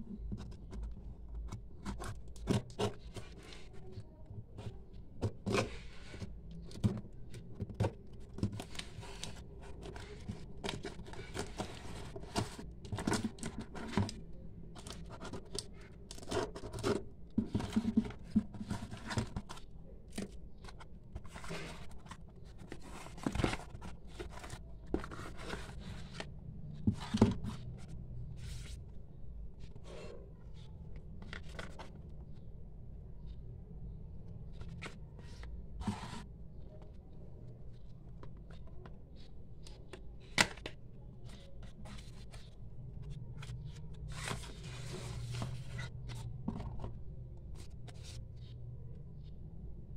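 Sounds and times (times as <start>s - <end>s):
small cardboard box handled: 0.0s - 29.0s, 29.6s - 32.4s, 34.4s - 48.5s.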